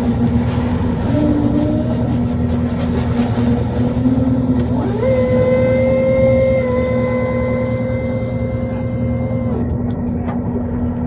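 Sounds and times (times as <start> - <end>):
motor whine: 0.0 - 9.9
boat engine running: 0.0 - 11.0.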